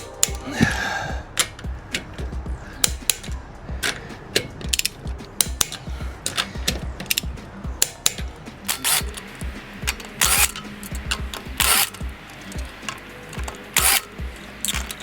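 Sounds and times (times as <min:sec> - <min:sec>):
low thuds: 0:00.0 - 0:13.6
metallic hand tool clicks: 0:02.8 - 0:15.0.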